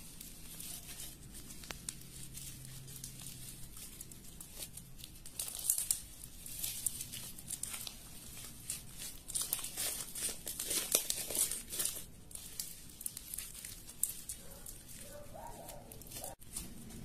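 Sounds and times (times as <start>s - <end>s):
crinkling and crackling handling: 0.0s - 17.0s.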